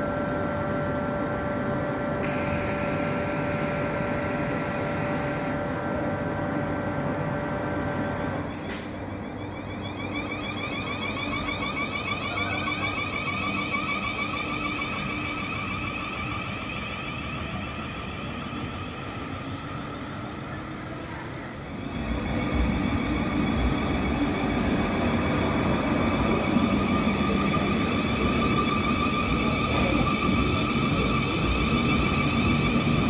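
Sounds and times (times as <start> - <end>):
train low rumble: 0.0 - 33.0
train whine: 0.0 - 33.0.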